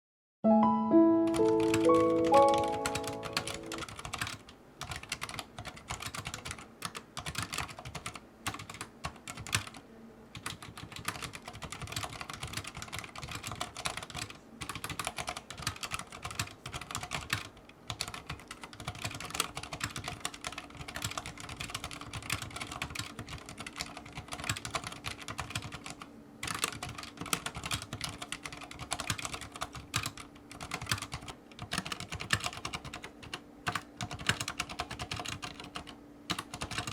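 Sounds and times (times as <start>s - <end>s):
fast typing on mechanical keyboard: 1.4s - 36.9s.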